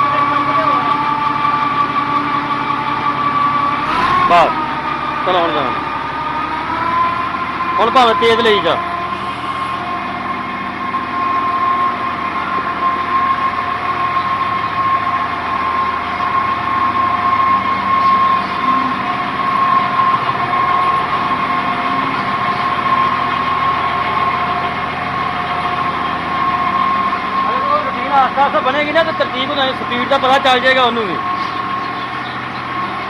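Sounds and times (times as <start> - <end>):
high-pitched mechanical whine: 0.0 - 33.0
mixer wagon mechanical rumble: 0.0 - 33.0.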